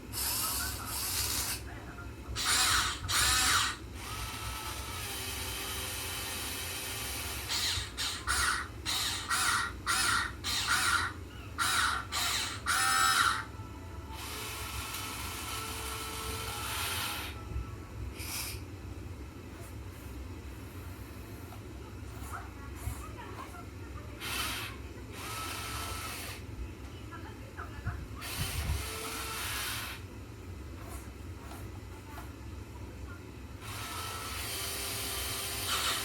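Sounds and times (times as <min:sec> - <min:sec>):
toy excavator motors whirring: 0:00.1 - 0:13.5, 0:14.1 - 0:17.5, 0:18.1 - 0:18.7, 0:20.7 - 0:26.5, 0:28.2 - 0:30.1, 0:30.8 - 0:32.4, 0:33.6 - 0:36.0.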